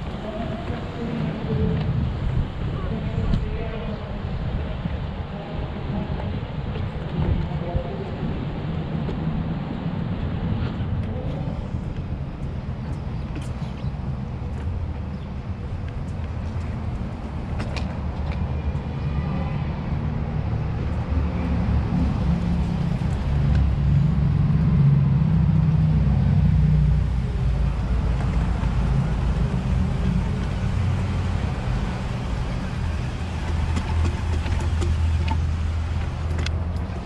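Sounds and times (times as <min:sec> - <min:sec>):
low rough outdoor rumble: 0:00.0 - 0:37.0.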